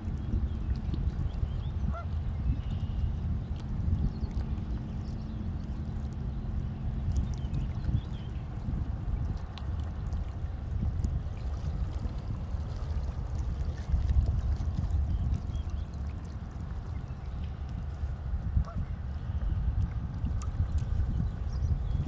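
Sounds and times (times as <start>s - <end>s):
water lapping against bank: 0.0s - 22.0s
wind rumbling on microphone: 0.0s - 22.0s.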